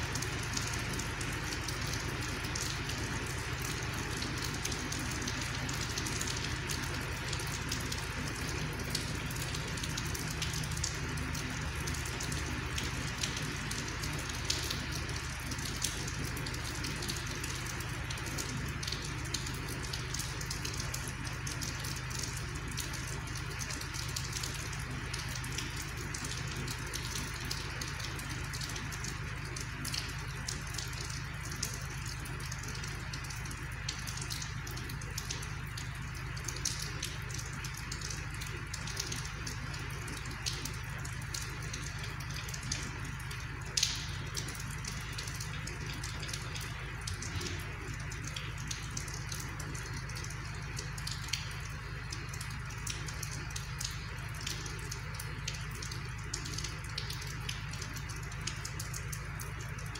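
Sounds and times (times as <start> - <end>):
rain falling: 0.0 - 59.9
raindrop taps: 0.0 - 59.9.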